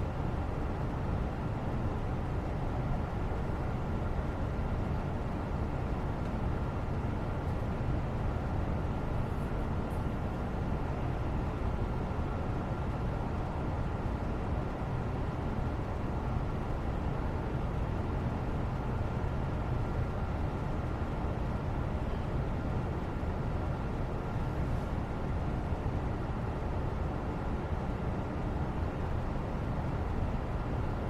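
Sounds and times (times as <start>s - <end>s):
low rumbling background noise: 0.0s - 31.0s.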